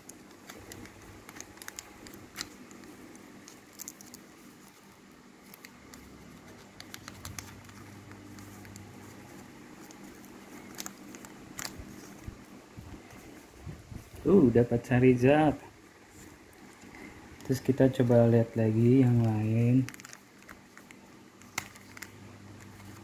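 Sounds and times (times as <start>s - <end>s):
plastic packet crinkling: 0.0s - 14.8s, 15.4s - 23.0s.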